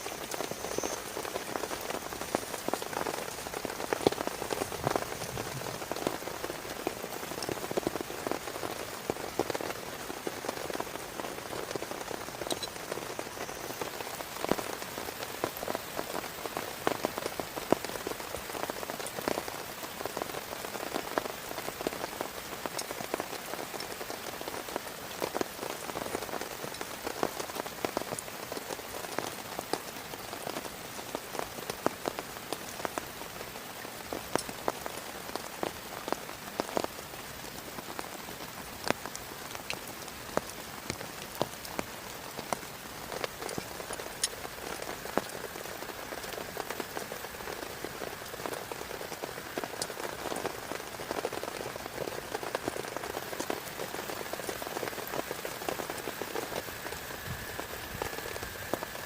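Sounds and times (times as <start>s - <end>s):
heavy rain: 0.0s - 59.0s
raindrops ticking on a surface: 0.0s - 59.0s.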